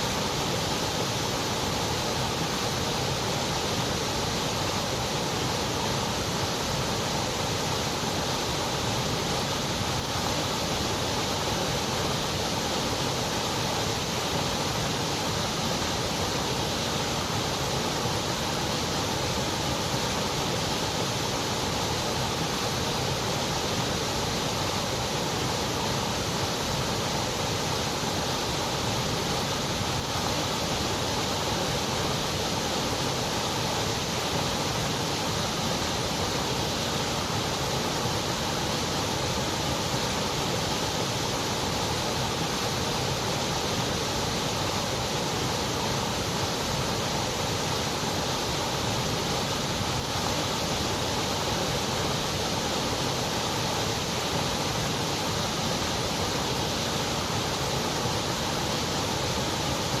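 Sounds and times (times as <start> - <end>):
white noise hiss: 0.0 - 60.0.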